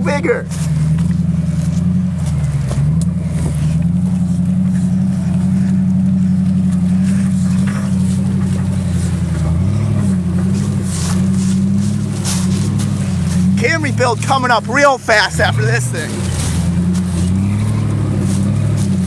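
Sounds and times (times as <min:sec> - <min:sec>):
engine running at low speed: 0:00.0 - 0:19.0.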